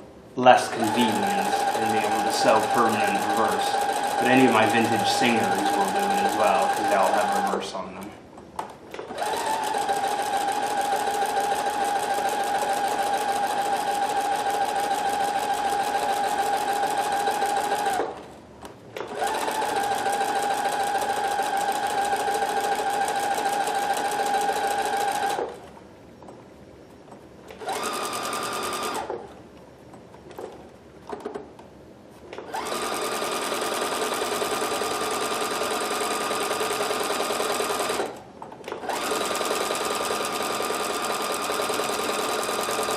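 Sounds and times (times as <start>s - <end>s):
sewing machine running: 0.6s - 7.7s, 9.0s - 18.2s, 19.0s - 25.6s, 27.5s - 29.2s, 32.4s - 42.9s.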